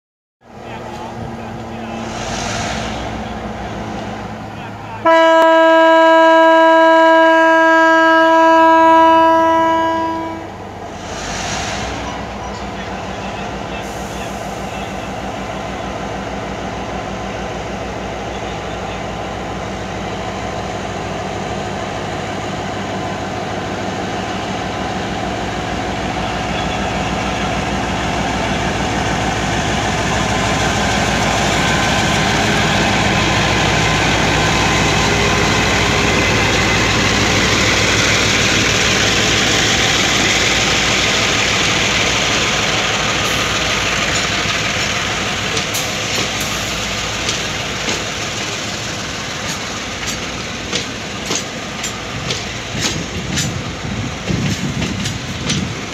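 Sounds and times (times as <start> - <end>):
freight locomotive running: 0.4 - 55.9.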